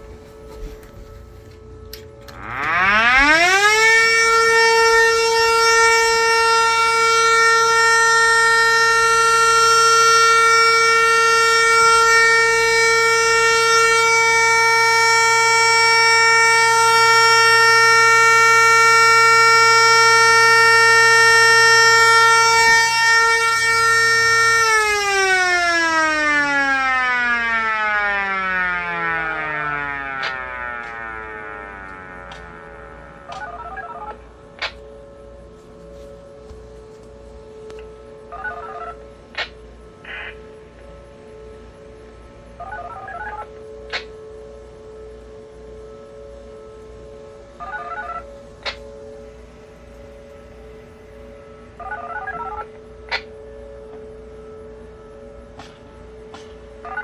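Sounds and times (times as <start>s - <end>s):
low hum: 0.0s - 57.0s
tornado siren winding: 0.0s - 57.0s.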